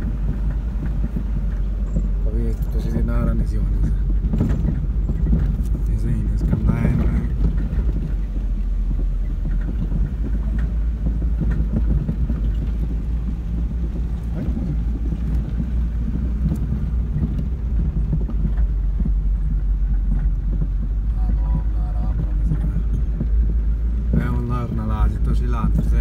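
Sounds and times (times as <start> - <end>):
engine and tyres rumbling: 0.0 - 26.0
knocks and rattles: 0.0 - 26.0.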